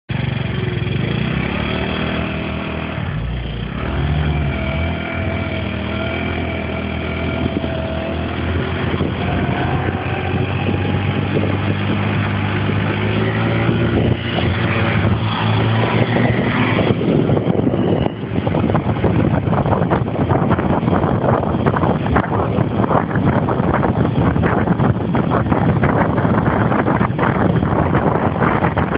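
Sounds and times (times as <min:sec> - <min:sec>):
scooter engine running: 0:00.1 - 0:28.9
wind noise on microphone: 0:00.1 - 0:28.9.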